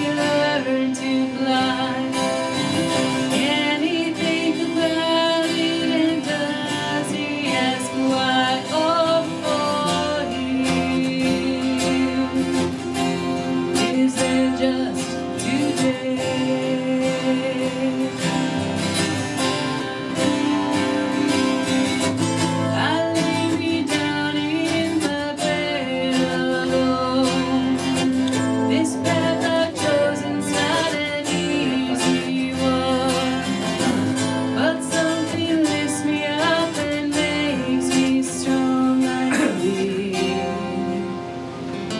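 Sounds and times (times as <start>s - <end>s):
woman singing: 0.0s - 41.2s
acoustic guitar playing: 0.0s - 41.9s.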